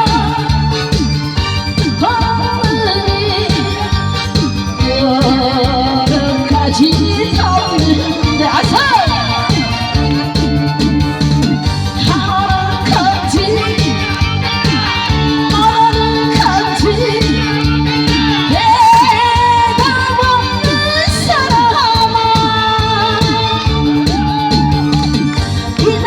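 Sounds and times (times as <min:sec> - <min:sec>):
amplified backing music with beat: 0:00.0 - 0:26.0
person singing: 0:00.0 - 0:26.0.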